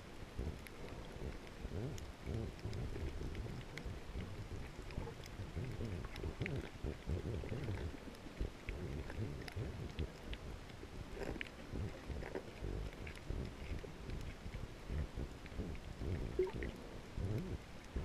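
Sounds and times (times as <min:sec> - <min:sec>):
underwater moving water rumble: 0:00.0 - 0:18.0
faint clicks: 0:00.3 - 0:18.0.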